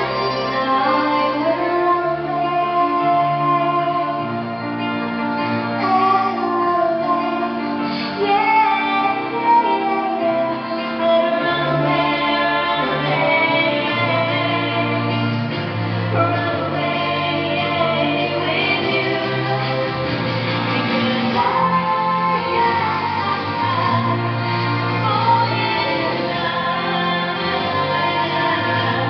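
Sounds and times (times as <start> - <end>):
woman singing: 0.0 - 4.9, 5.8 - 29.0
instrumental accompaniment: 0.0 - 29.0.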